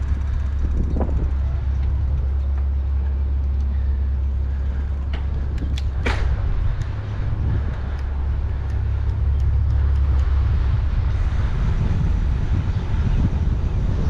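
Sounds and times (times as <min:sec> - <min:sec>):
tyre and road noise: 0:00.0 - 0:14.0
wind buffeting microphone: 0:00.0 - 0:14.0.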